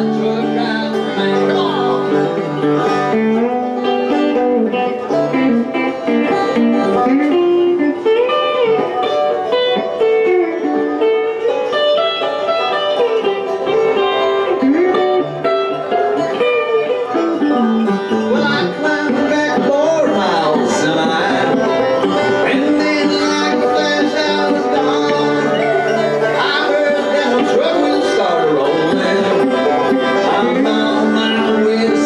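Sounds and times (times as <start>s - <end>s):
banjo playing bluegrass: 0.0s - 32.0s
electric guitar sliding notes: 0.0s - 32.0s.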